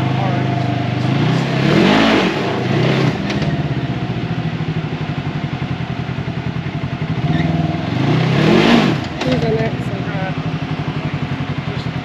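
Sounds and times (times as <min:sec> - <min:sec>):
utv engine revving: 0:00.0 - 0:12.0.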